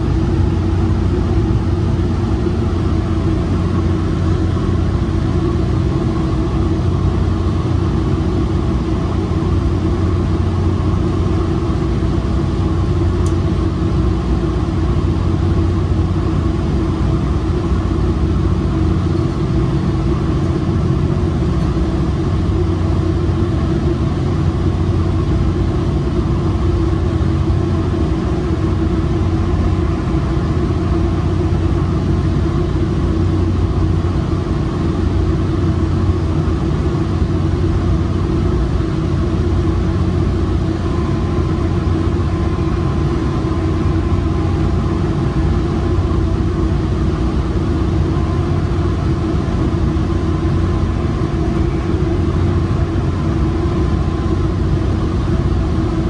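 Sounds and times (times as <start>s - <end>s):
low hum: 0.0s - 56.0s
train wheels rumbling on rail: 0.0s - 56.0s.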